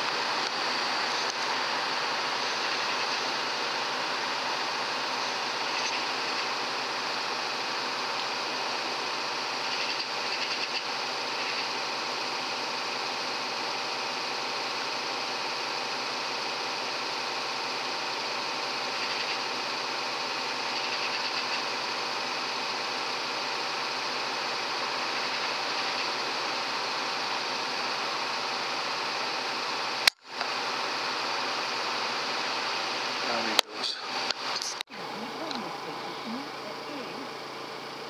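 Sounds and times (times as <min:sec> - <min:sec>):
electronic hiss with faint whine: 0:00.0 - 0:38.0.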